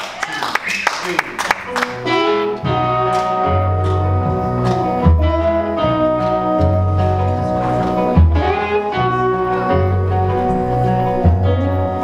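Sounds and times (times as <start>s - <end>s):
piano chords: 1.4s - 12.0s
acoustic guitar: 1.6s - 12.0s
electric guitar: 1.6s - 12.0s
sliding guitar notes: 1.7s - 12.0s
upright bass: 1.7s - 12.0s.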